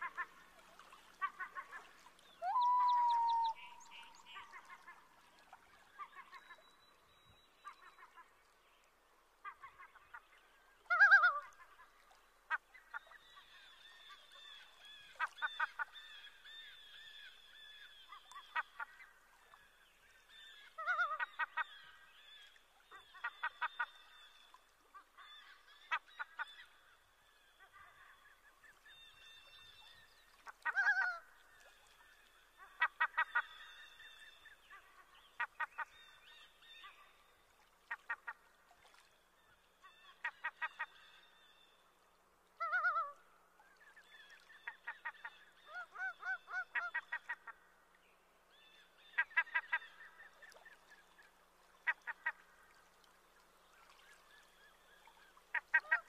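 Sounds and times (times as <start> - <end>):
water birds calling: 0.0 - 56.0.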